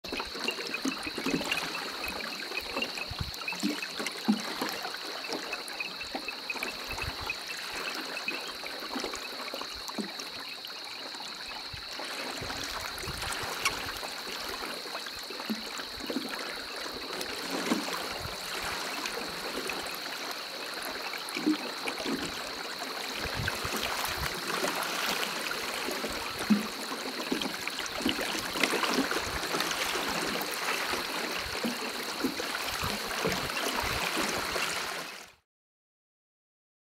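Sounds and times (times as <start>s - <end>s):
water lapping along canoe hull: 0.0s - 35.4s.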